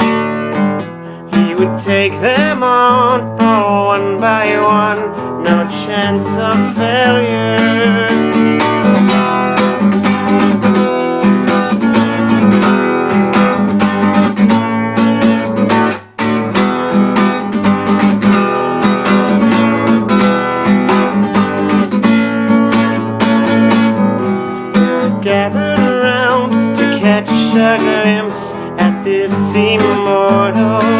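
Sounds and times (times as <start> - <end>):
acoustic guitar strumming chords: 0.0 - 30.9.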